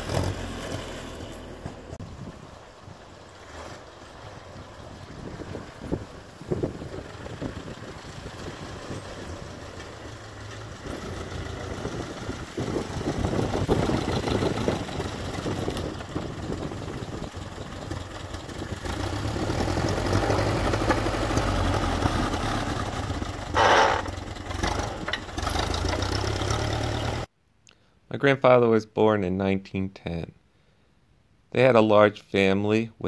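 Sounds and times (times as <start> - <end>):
tractor engine passing: 0.0 - 27.3.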